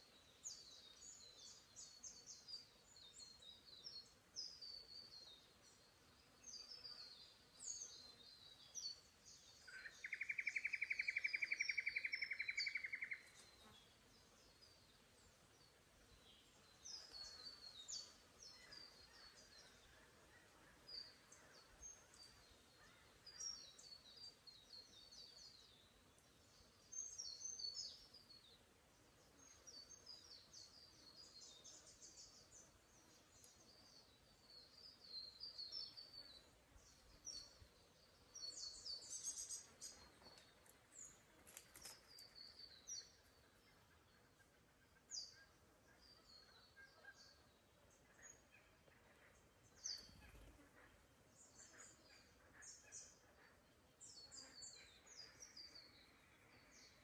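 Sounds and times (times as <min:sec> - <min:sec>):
small birds twittering: 0:00.0 - 0:57.0.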